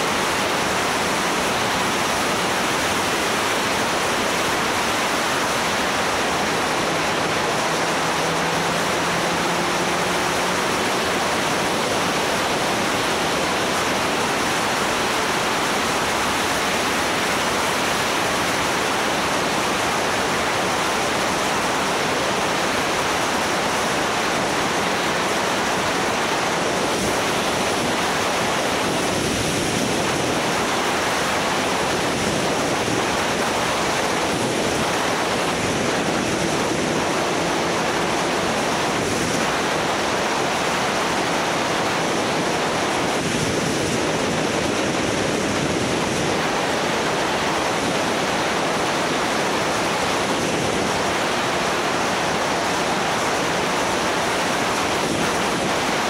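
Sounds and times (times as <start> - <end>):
wind rush over microphone: 0.0 - 56.0.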